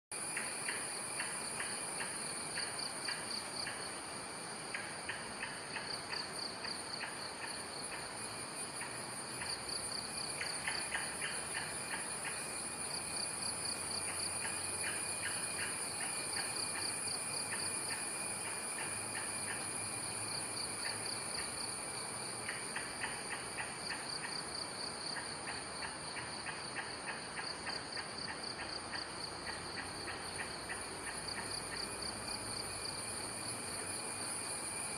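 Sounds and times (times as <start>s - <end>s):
insects droning: 0.1s - 34.9s
fast pulsing insect chirps: 0.2s - 34.9s.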